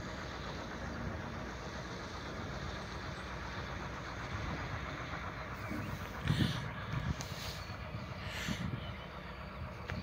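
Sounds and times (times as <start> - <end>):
distant diesel locomotive drone: 0.0 - 10.0.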